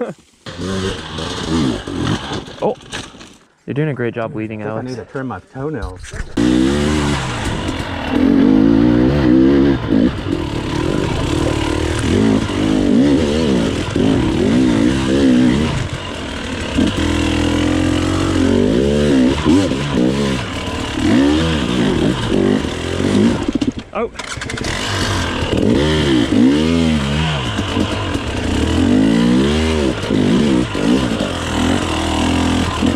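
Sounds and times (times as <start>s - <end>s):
dirt bike engine revving: 0.5s - 3.2s, 6.4s - 32.9s.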